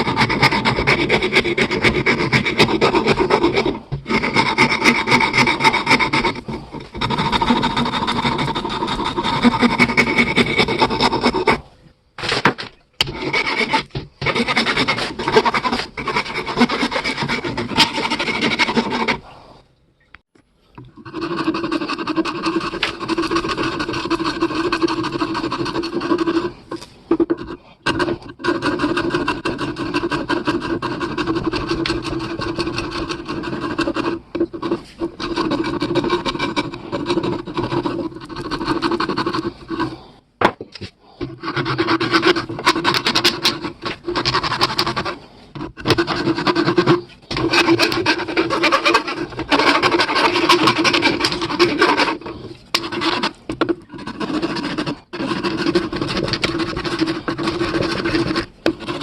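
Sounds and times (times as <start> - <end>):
abrasive tool rasping: 0.0 - 12.4, 13.0 - 19.3, 21.0 - 40.2, 41.2 - 59.0.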